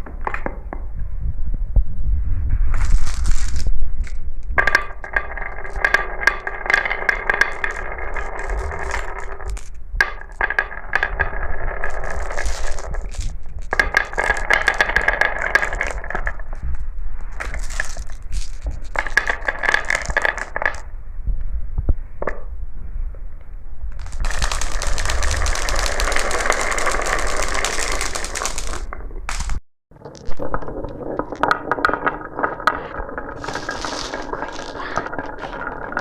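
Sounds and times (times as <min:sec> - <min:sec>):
marbles clinking together: 0:02.8 - 0:20.8, 0:24.0 - 0:36.0
glass marbles rolling on track: 0:02.8 - 0:20.9, 0:24.0 - 0:36.0.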